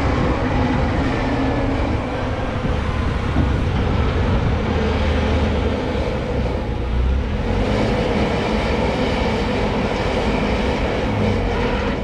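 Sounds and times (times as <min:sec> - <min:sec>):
wheel loader diesel engine rumble: 0:00.0 - 0:12.0.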